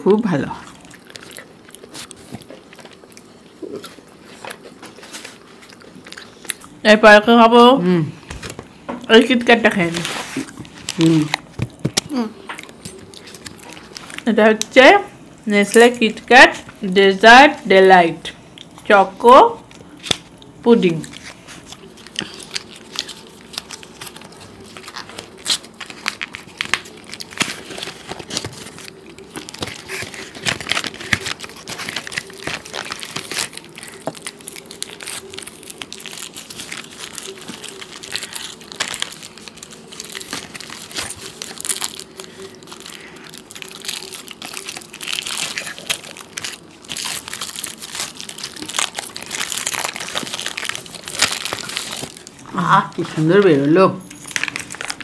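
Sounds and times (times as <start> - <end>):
faint steady hum: 0.0 - 55.0
foil wrappers crinkling: 0.2 - 7.3, 8.2 - 14.6, 19.6 - 55.0.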